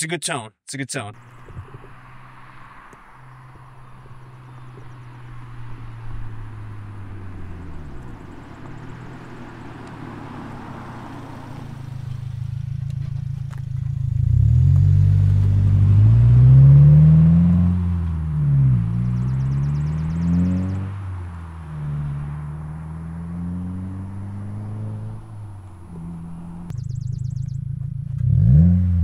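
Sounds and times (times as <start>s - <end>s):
car engine accelerating past: 1.2s - 29.0s.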